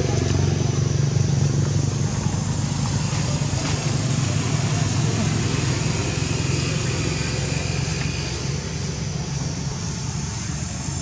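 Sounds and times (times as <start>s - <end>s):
outdoor noise: 0.0s - 11.0s
vehicle engine hum: 0.0s - 11.0s.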